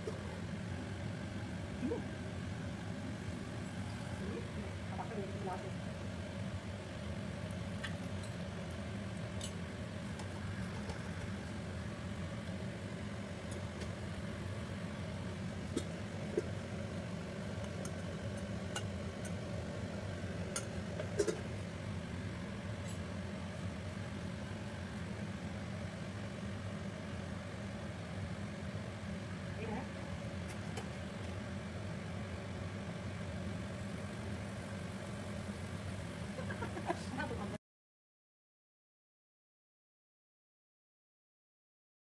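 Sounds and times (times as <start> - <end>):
steady low hum: 0.0 - 37.6.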